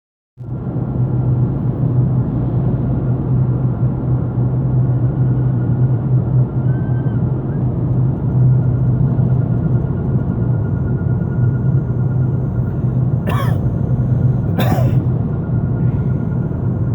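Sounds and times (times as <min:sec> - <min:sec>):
car road and engine rumble: 0:00.4 - 0:16.9
high-pitched whine: 0:02.9 - 0:16.9.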